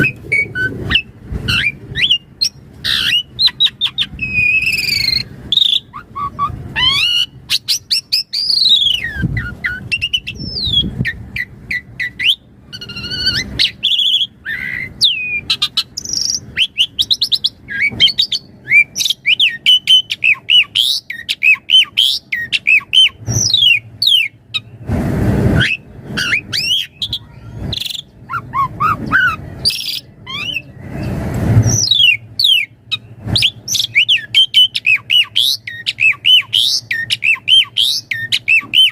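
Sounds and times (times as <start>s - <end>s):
starling singing: 0.0s - 24.8s, 25.6s - 38.9s
harsh noisy bird notes: 0.0s - 24.9s, 25.5s - 38.9s.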